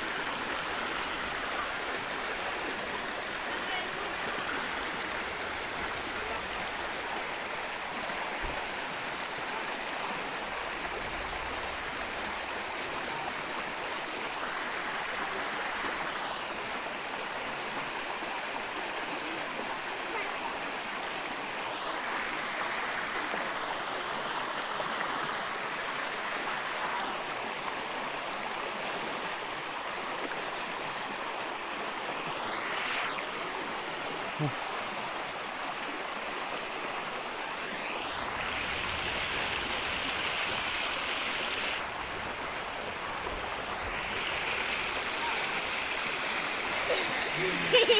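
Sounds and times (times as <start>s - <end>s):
water rushing over rocks: 0.0s - 47.9s.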